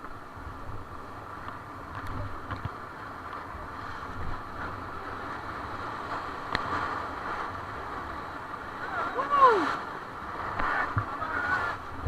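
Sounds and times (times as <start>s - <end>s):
whitewater rushing and splashing: 0.0s - 12.0s.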